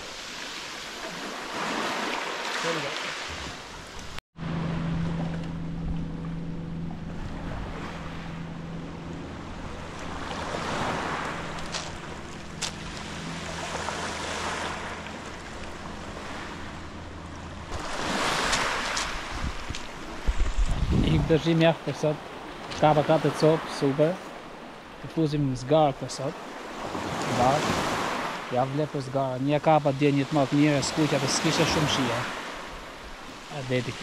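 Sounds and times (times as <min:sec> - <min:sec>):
sea waves washing in: 0:00.0 - 0:34.0
boat engine hum: 0:01.0 - 0:34.0.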